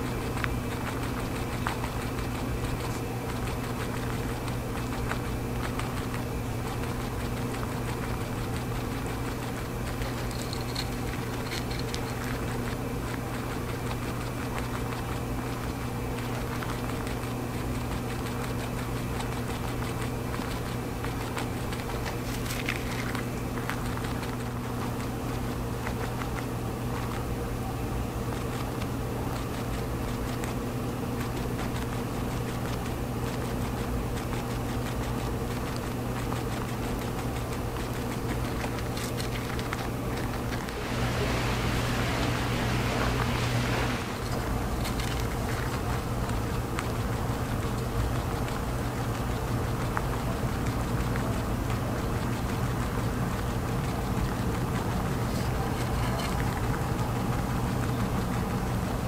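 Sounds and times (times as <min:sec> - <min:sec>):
low mechanical hum: 0:00.0 - 0:59.0
rabbit chewing oats: 0:00.0 - 0:59.0.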